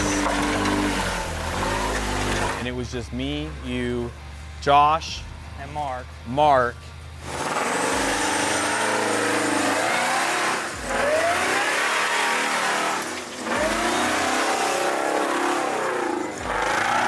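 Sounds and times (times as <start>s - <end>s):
off-road vehicle engine revving: 0.0s - 5.8s, 7.0s - 17.0s.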